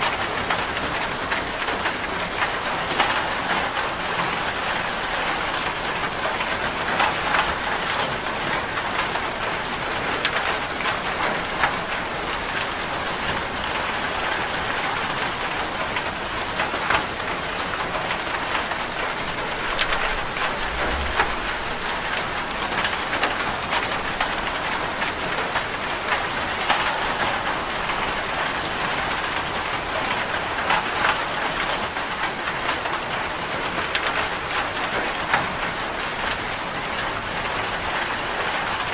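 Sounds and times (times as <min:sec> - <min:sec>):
rain hissing on a surface: 0:00.0 - 0:38.9
sharp rain ticks: 0:00.0 - 0:38.9.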